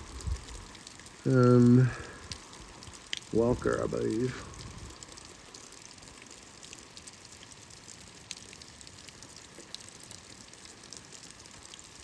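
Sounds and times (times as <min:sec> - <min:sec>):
light rain falling: 0:00.0 - 0:12.0
raindrops ticking: 0:00.0 - 0:12.0.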